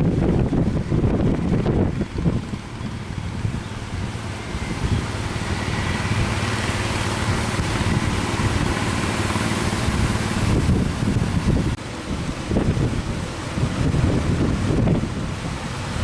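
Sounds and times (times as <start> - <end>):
boat engine running: 0.0 - 16.0
wind buffeting microphone: 0.0 - 16.0.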